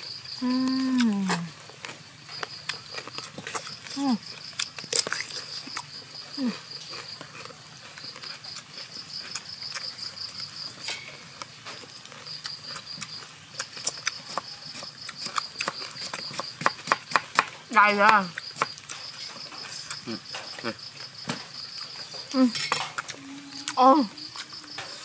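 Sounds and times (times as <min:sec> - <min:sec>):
insects trilling: 0:00.0 - 0:25.0
people chewing cucumber: 0:00.0 - 0:25.0.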